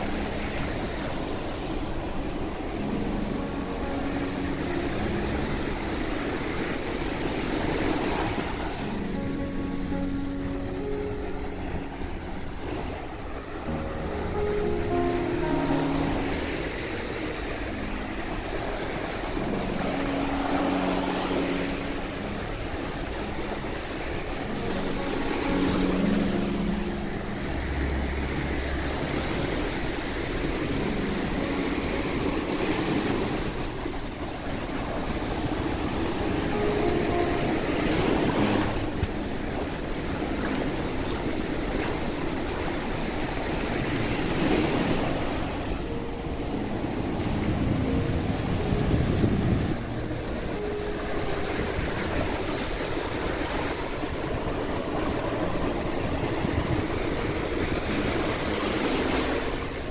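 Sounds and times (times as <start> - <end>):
small waves breaking on sand: 0.0 - 59.9.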